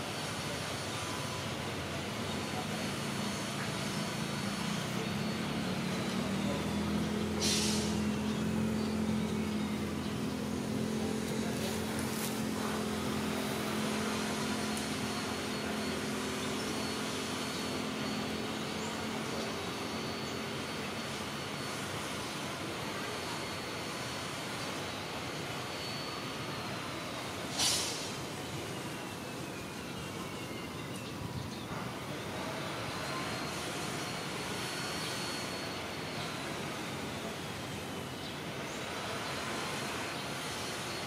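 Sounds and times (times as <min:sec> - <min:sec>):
distant engine drone: 0:00.0 - 0:41.0
steady outdoor hiss: 0:00.0 - 0:41.0.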